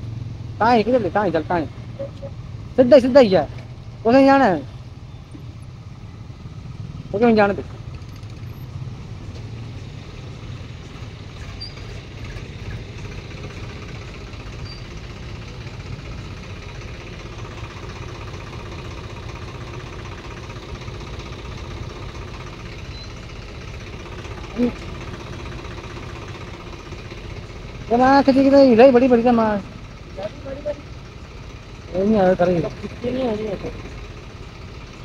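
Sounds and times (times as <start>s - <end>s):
idling engines in traffic jam: 0.0s - 35.0s.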